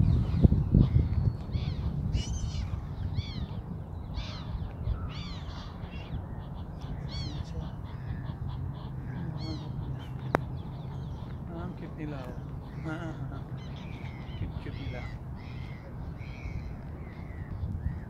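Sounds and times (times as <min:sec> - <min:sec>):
gulls calling: 0:00.0 - 0:18.0
steady low rumble: 0:00.0 - 0:18.0.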